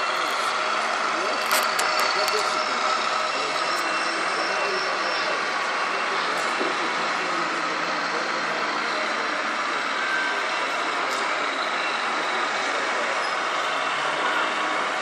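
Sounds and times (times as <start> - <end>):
model truck engine sound from speaker: 0.0 - 15.0.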